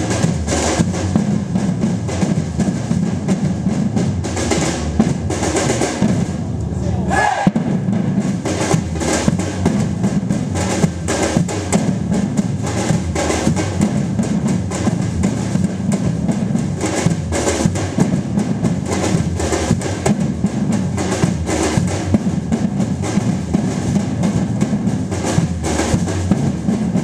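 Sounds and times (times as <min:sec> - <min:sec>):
heavy low drum: 0:00.0 - 0:27.0
percussion ensemble drumming: 0:00.0 - 0:27.0.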